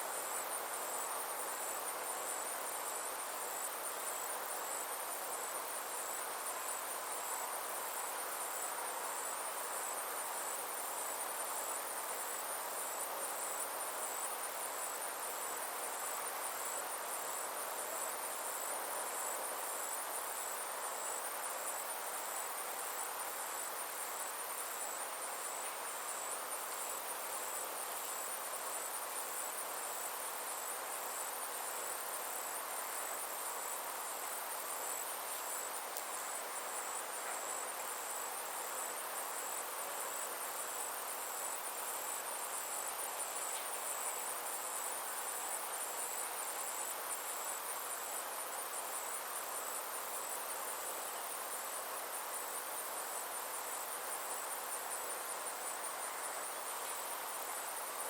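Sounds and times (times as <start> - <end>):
insects trilling: 0.0 - 58.0
soft steady hiss: 0.0 - 58.0.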